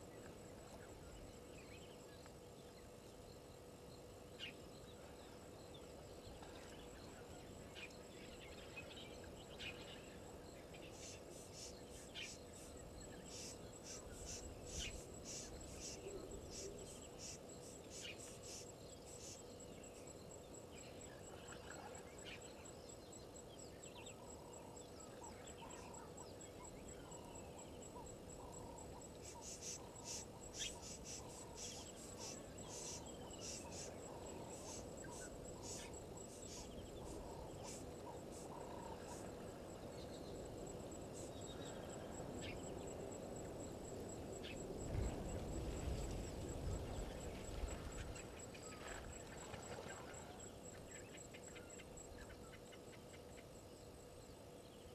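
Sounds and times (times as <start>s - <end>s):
high insect trill: 0.0s - 54.9s.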